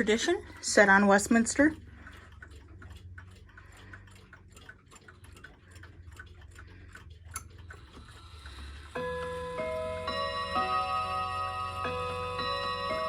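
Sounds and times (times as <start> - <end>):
clocks ticking: 0.0 - 13.0.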